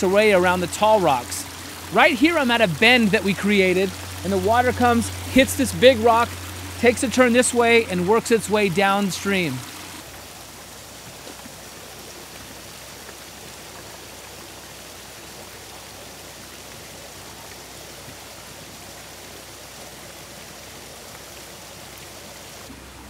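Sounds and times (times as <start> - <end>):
water rushing over stones: 0.0 - 23.0.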